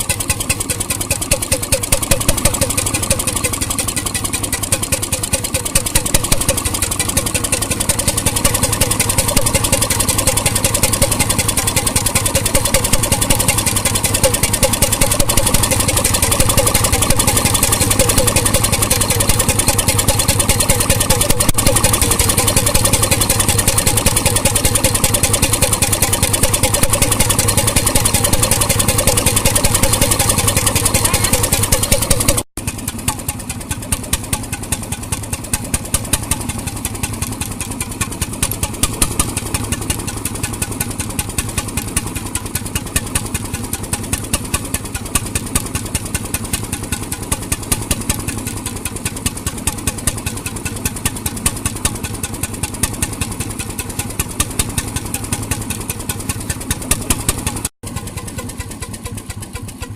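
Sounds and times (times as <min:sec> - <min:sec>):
marine engine running: 0:00.0 - 0:59.9.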